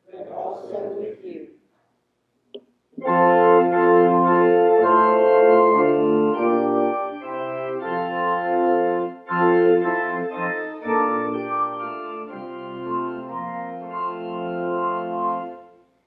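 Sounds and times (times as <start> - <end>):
organ playing sustained chords: 3.0 - 16.0.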